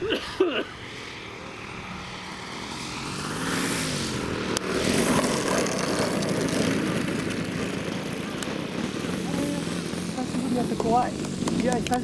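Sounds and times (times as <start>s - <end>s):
model plane engine and propeller: 0.0s - 12.0s.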